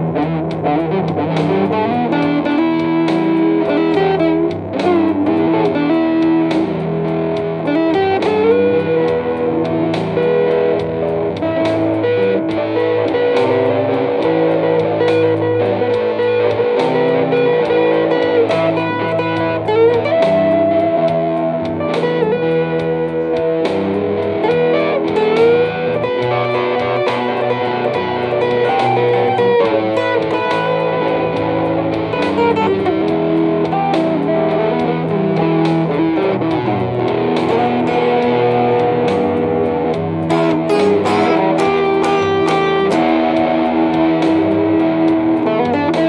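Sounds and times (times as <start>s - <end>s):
blues electric guitar: 0.0s - 46.0s.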